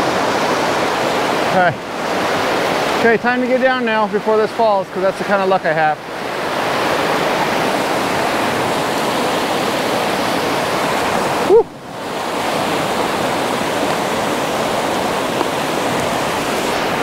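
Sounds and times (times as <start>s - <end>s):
rapids rushing over rocks: 0.0s - 17.0s.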